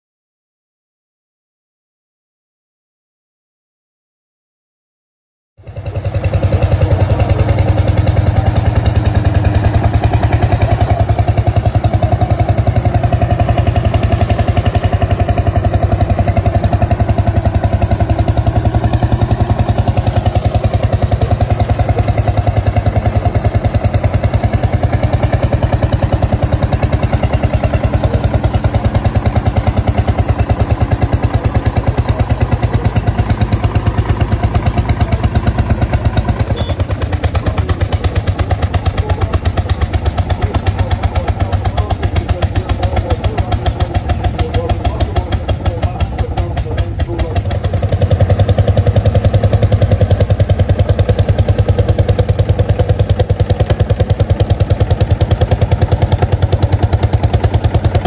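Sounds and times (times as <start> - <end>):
tractor engine running: 5.6 - 58.0.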